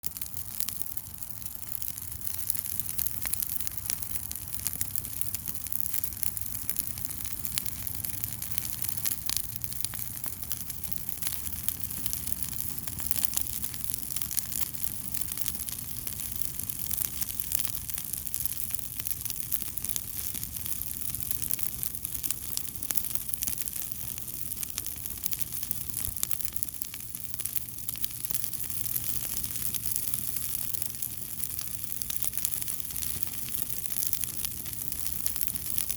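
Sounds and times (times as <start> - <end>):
fire crackling: 0.0 - 35.9.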